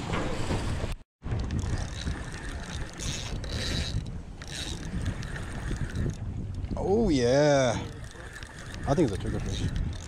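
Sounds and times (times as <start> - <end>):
open water rumbling: 0.0 - 10.0
wind buffeting microphone: 0.0 - 10.0.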